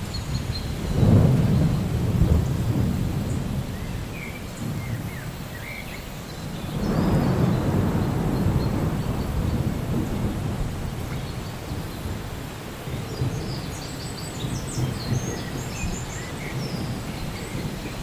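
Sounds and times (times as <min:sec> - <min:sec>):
rolling thunder: 0:00.0 - 0:05.7, 0:06.4 - 0:18.0
steady rain: 0:00.0 - 0:18.0.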